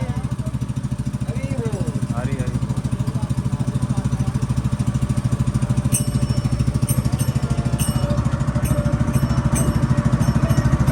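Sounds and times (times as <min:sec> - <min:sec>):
motorboat engine chugging: 0:00.0 - 0:10.9.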